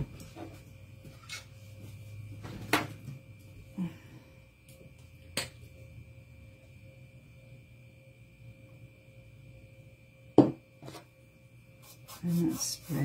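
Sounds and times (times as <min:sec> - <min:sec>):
faint thin whine: 0:00.0 - 0:13.0
low electrical hum: 0:00.0 - 0:13.0.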